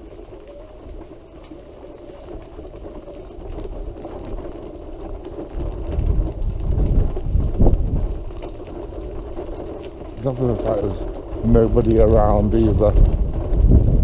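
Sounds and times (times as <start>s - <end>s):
wheelchair rattling on rough path: 0.0s - 14.0s.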